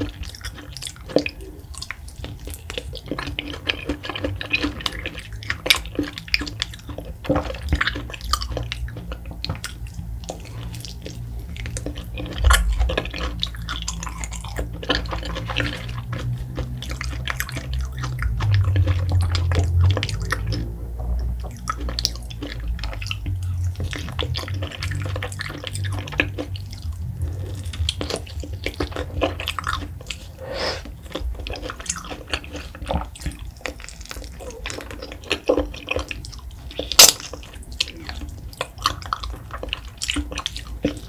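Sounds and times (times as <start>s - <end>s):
low steady hum: 0.0s - 41.0s
wet chewing and slurping: 0.0s - 41.0s.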